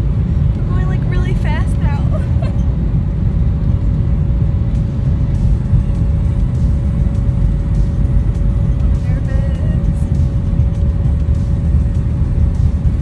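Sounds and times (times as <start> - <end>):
jet engine rumble: 0.0 - 13.0
steady whine: 0.0 - 13.0.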